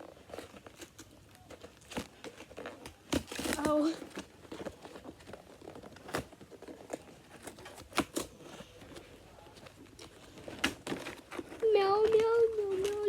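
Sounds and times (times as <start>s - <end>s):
cardboard crinkling and tearing: 0.0s - 13.0s.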